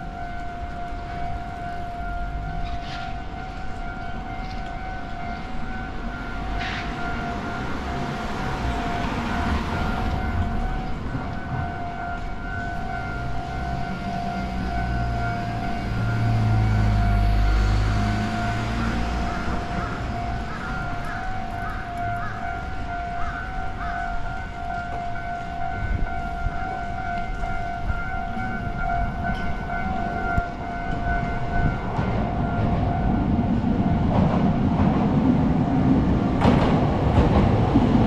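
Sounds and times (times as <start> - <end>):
road vehicle rumble: 0.0 - 38.0.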